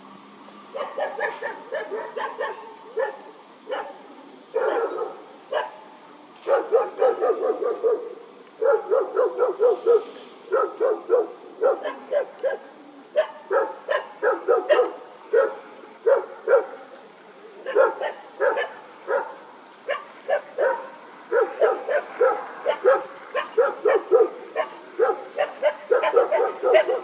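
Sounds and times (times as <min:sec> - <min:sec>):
dog barking high-pitched: 0:00.8 - 0:04.0, 0:04.6 - 0:05.8, 0:06.4 - 0:16.8, 0:17.6 - 0:27.0.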